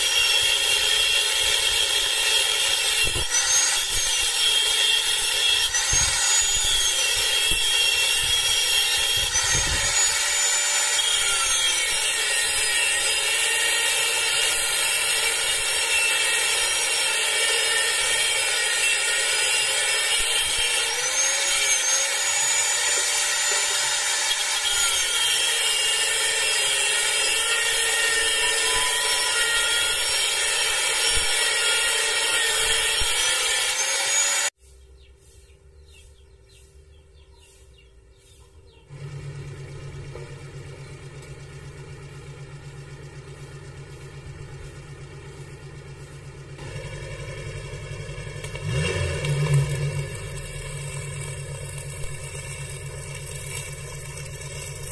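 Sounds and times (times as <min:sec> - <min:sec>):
angle grinder cutting iron: 0:00.0 - 0:34.6, 0:38.3 - 0:54.9.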